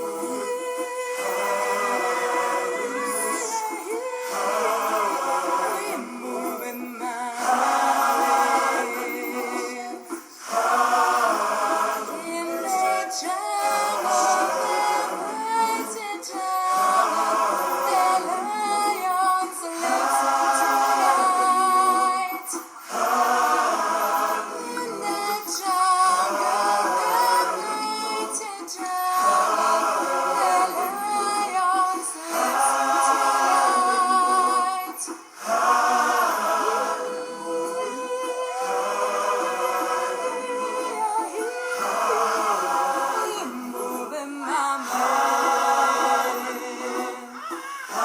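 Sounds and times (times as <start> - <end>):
choir singing in harmony: 0.0 - 48.0.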